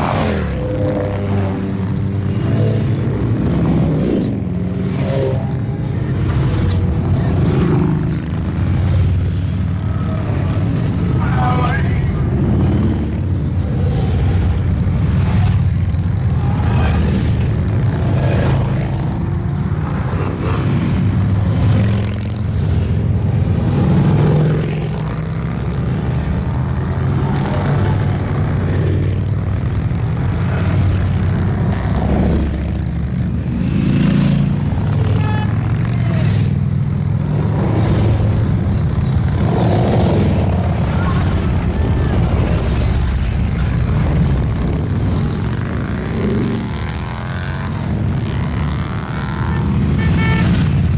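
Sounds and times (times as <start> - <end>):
motorcycles riding past: 0.0 - 50.9.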